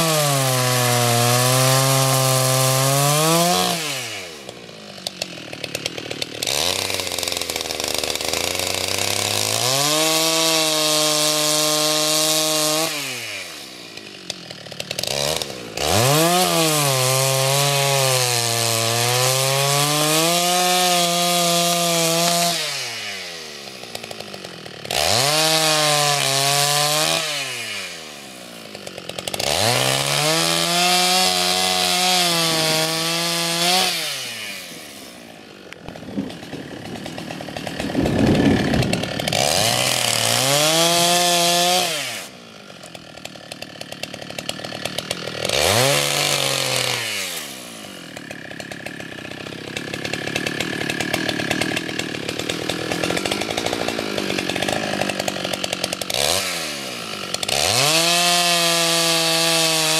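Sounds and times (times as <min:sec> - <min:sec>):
chainsaw cutting tree trunk: 0:00.0 - 0:59.9.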